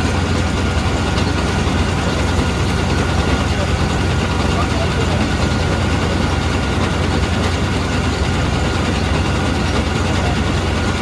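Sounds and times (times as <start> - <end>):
farm machine engine humming: 0.0 - 11.0.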